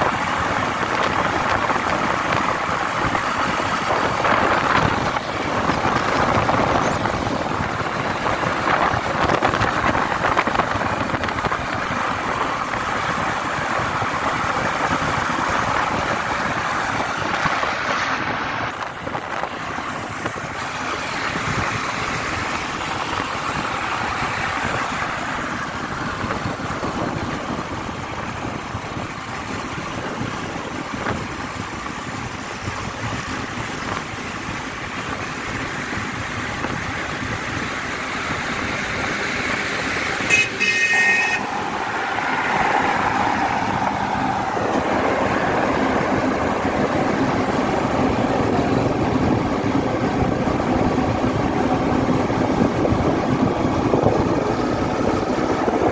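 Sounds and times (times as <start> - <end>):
motorcycle engine: 0.0 - 55.9
passing traffic: 0.0 - 55.9
wind rush and road noise: 0.0 - 55.9.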